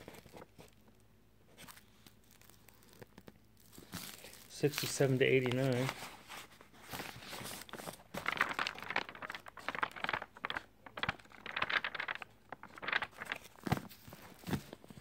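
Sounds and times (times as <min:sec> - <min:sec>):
paper pages flipping: 0:00.0 - 0:00.8, 0:01.6 - 0:15.0.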